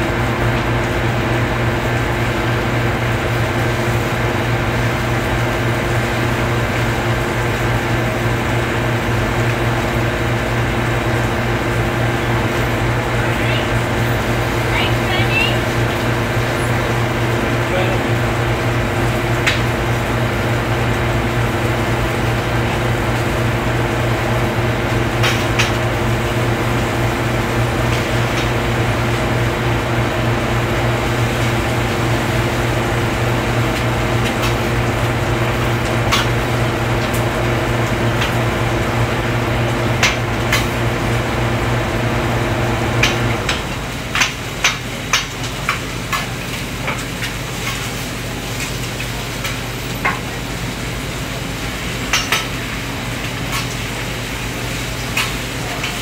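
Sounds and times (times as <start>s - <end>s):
machine hum: 0.0s - 55.8s
food frying on a griddle: 0.0s - 56.0s.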